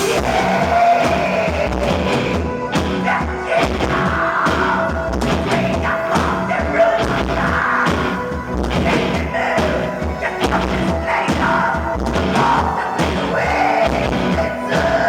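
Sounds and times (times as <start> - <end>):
black metal band playing live: 0.0 - 15.0.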